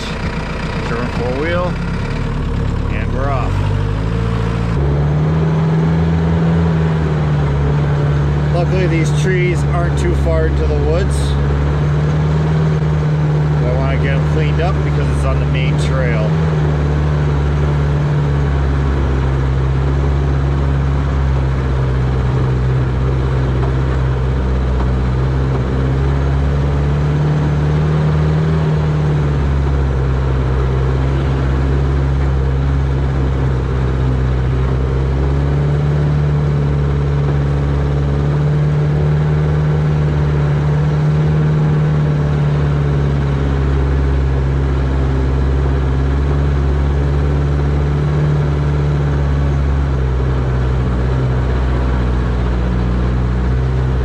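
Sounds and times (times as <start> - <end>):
jeep engine running: 0.0 - 54.0.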